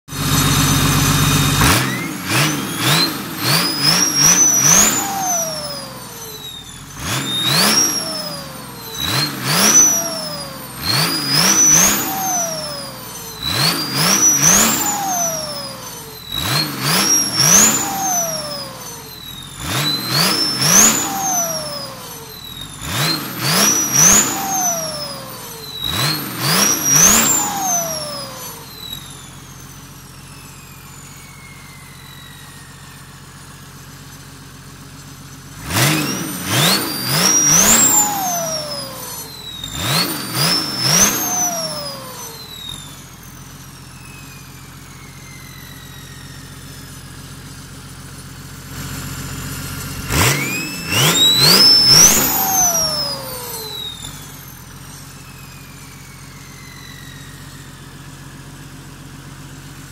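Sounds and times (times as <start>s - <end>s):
diesel engine revving: 0.0s - 59.9s
turbocharger whistle: 0.1s - 59.9s.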